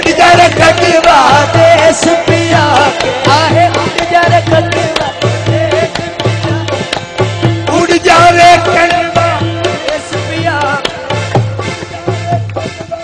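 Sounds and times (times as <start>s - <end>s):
tabla strokes: 0.0s - 13.0s.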